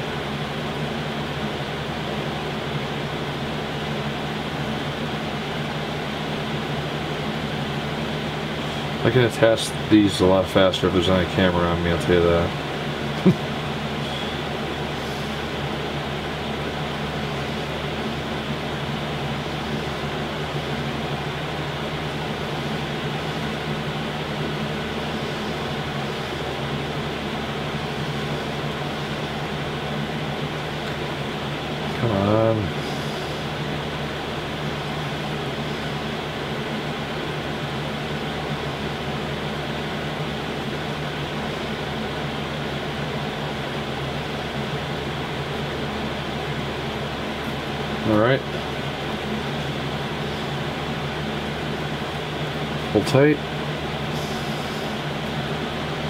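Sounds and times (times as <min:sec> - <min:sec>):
machine hum with hiss: 0:00.0 - 0:56.0.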